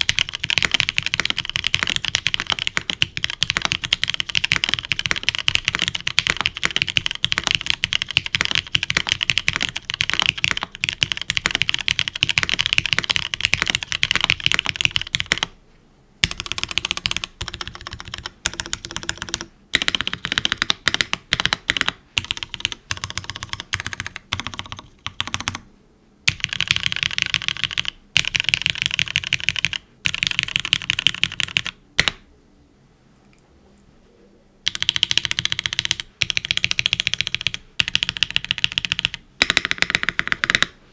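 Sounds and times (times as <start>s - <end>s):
fast typing on mechanical keyboard: 0.0s - 15.6s, 16.2s - 25.6s, 26.3s - 32.2s, 34.7s - 40.8s.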